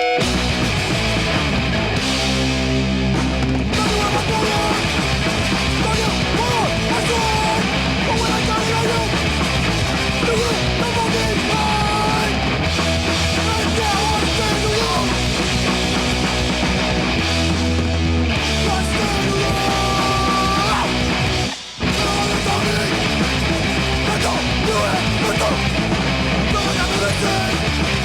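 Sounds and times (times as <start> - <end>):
punk rock music: 0.0 - 28.0.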